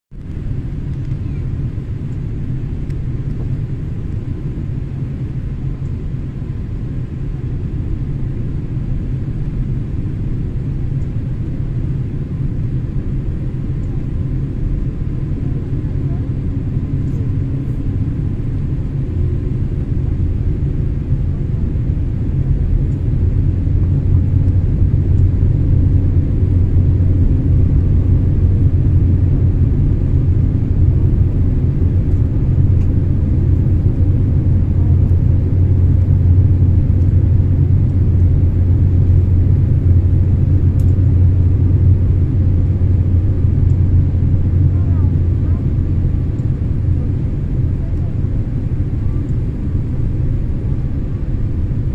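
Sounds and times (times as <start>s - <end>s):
airplane cabin engine rumble: 0.1s - 51.9s.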